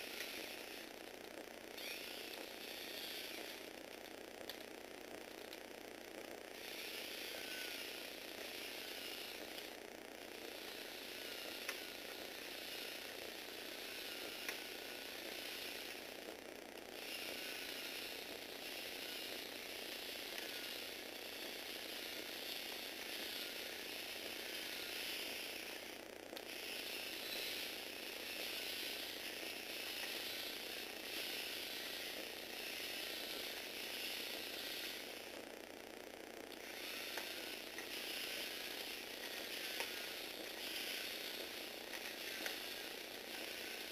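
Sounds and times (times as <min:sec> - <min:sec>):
gearbox motor whirring: 0:00.0 - 0:43.9.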